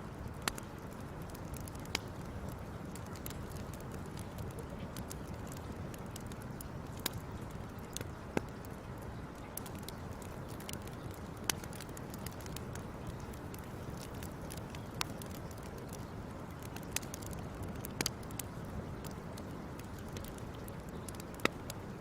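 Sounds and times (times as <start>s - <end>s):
fire crackles and pops: 0.0s - 22.0s
wood fire burning: 0.0s - 22.0s.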